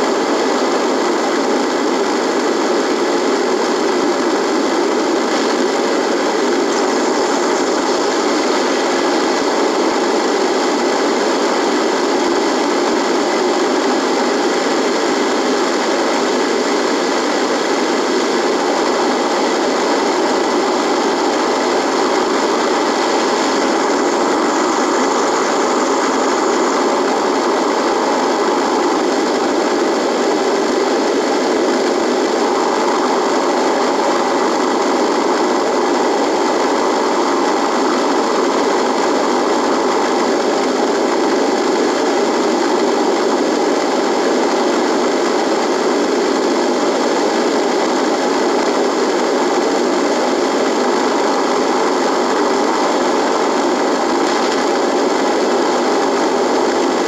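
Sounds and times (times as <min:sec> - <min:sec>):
radio static hiss with tones: 0:00.0 - 0:57.0.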